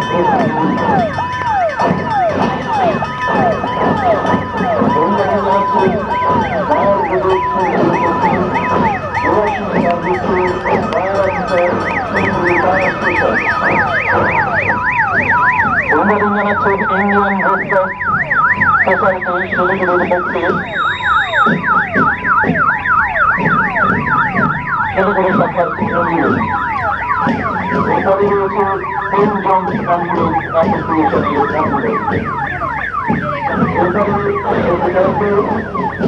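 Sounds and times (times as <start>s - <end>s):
falling whooping siren: 0.0s - 36.0s
fast yelping siren: 0.0s - 36.0s.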